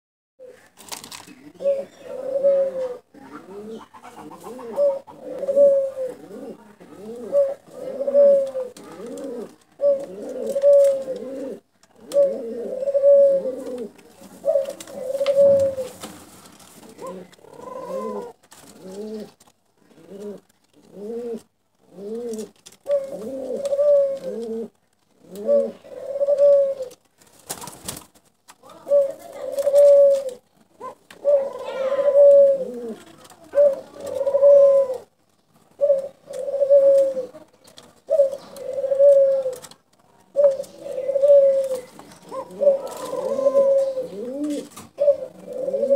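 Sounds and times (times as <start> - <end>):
dove cooing: 0.4 - 16.0, 16.7 - 27.0, 28.6 - 45.9.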